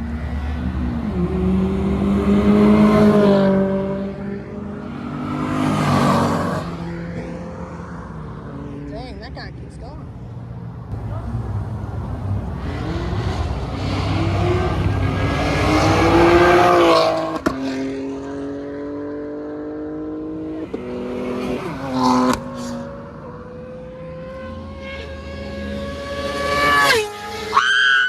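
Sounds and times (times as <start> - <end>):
car engine revving: 0.0 - 9.4, 10.9 - 28.0.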